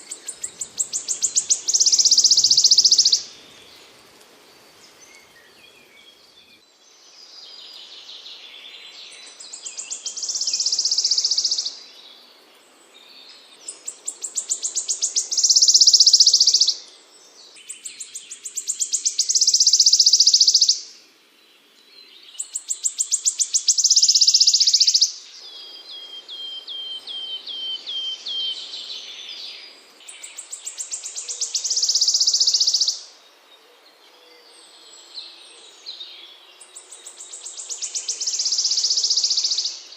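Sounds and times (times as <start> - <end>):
songbird buzzing trill song: 0.0 - 4.0, 4.8 - 39.9.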